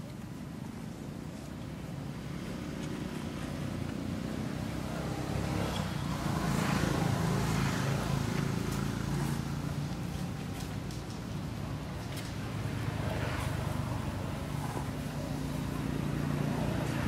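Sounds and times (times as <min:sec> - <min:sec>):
vehicle engine noise: 0:00.0 - 0:17.0.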